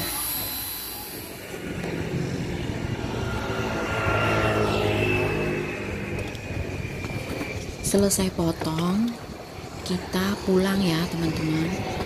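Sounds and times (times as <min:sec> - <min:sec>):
tyre and road noise: 0:01.3 - 0:12.0.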